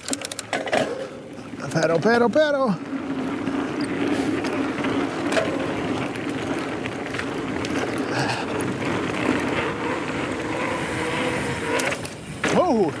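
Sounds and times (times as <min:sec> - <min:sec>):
bike clicks and rattles: 0:00.0 - 0:13.0
tyre and wind noise: 0:00.0 - 0:13.0.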